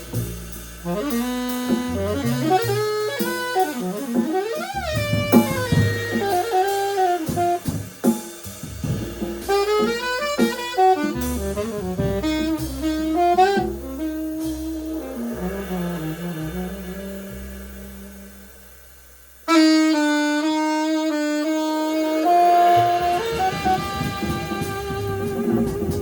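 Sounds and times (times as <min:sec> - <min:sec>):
alto saxophone: 0:00.0 - 0:26.0
drum kit: 0:00.0 - 0:26.0
electric bass: 0:00.0 - 0:26.0.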